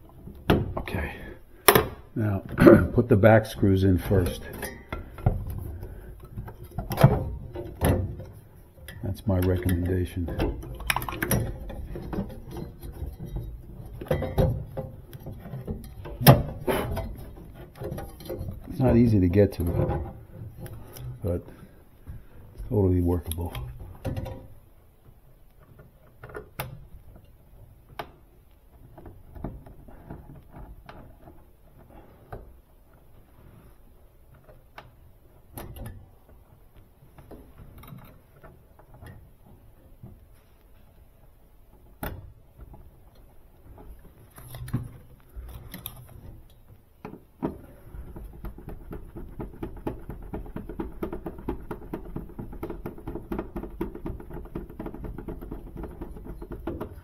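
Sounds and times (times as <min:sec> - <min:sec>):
clicks and knocks of screws and tools: 0:04.0 - 0:33.2, 0:34.2 - 0:57.0.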